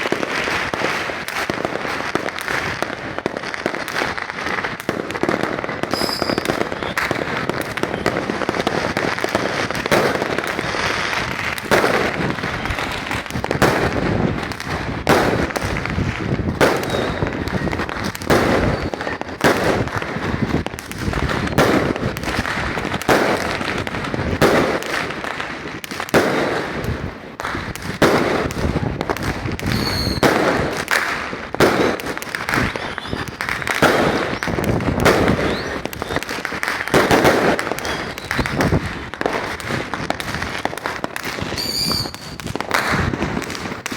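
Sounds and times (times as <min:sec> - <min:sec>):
fireworks bangs: 0:00.0 - 0:43.9
loud firework booms: 0:00.0 - 0:43.9.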